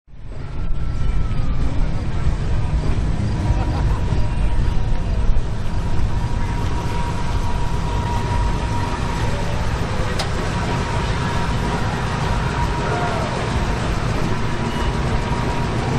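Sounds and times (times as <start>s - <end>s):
low rumble of running vehicles: 0.1s - 15.9s.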